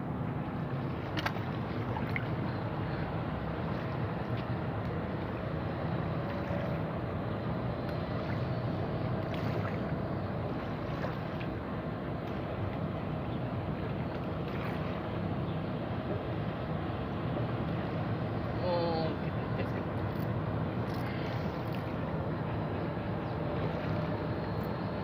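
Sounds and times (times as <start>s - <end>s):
boat motor rumbling: 0.0s - 25.0s.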